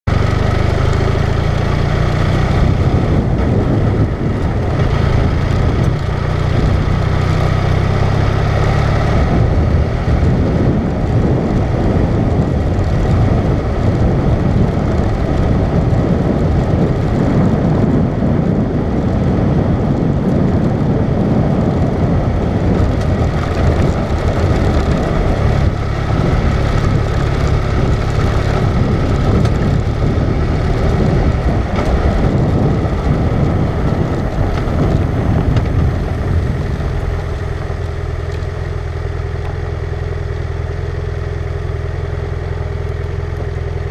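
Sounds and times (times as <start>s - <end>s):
vehicle engine hum: 0.0s - 43.9s.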